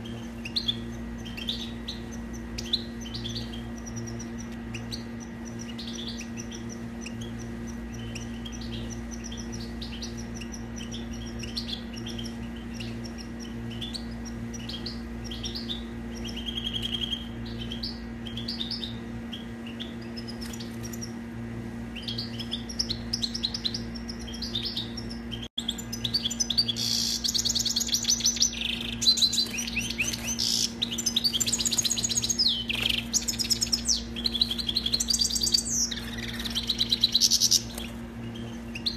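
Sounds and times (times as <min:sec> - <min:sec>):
bird twittering and trilling: 0:00.0 - 0:38.9
faint steady hum: 0:00.0 - 0:38.9.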